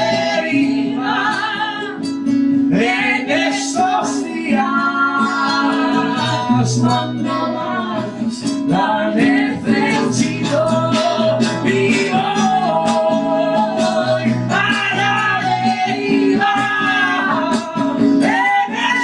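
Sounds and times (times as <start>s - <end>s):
guitar music with melody: 0.0s - 19.0s.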